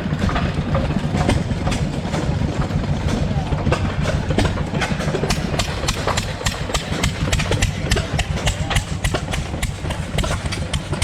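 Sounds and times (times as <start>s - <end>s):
stationary gas engines running: 0.0s - 11.0s.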